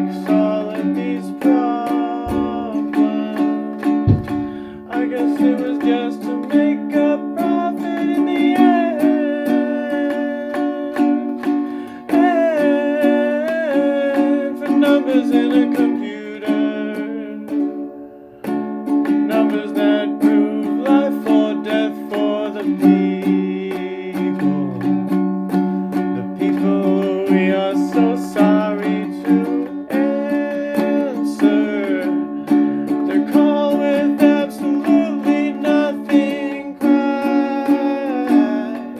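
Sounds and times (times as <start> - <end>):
wordless singing: 0.0 - 17.7, 19.2 - 25.3, 26.1 - 38.9
strummed acoustic string chords: 0.0 - 38.9.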